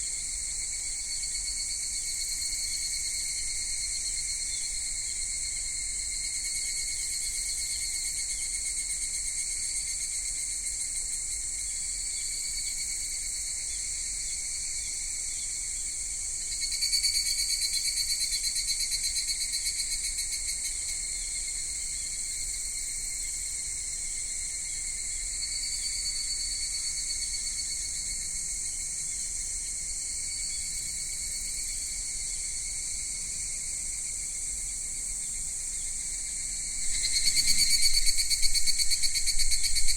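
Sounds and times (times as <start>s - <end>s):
chorus of cicadas: 0.0s - 39.9s
nearby cicada pulsed call: 0.0s - 39.9s.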